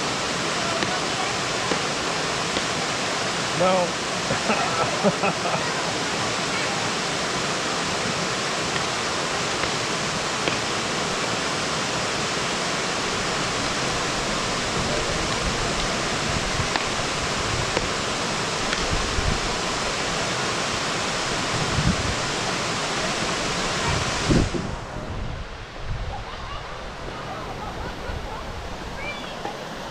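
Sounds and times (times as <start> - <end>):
small waterfall rushing over rocks: 0.0 - 29.9.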